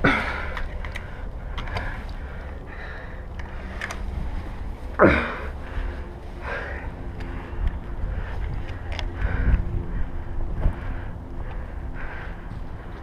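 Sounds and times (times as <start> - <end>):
low rumble on microphone: 0.0 - 13.0.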